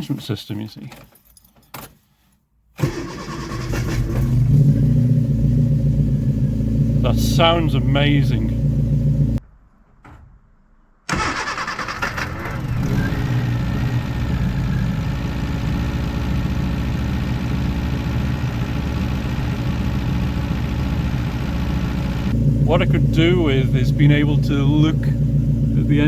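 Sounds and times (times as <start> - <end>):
car engine starting and running: 2.8 - 9.4, 11.1 - 26.0.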